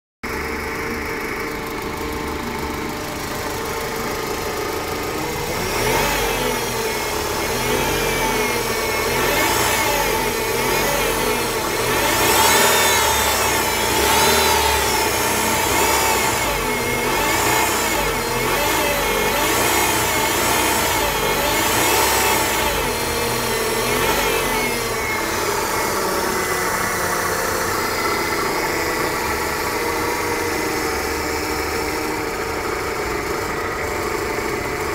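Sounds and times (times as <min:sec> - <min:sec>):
car engine idling: 0:00.2 - 0:34.9
power steering whine: 0:00.3 - 0:34.9.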